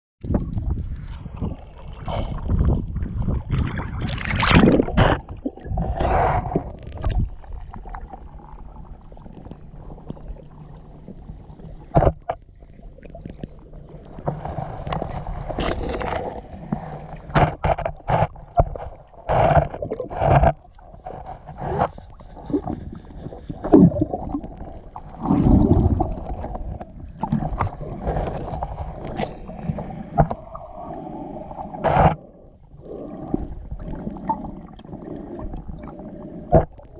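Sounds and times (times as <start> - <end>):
muffled underwater sloshing: 0.2 - 36.9.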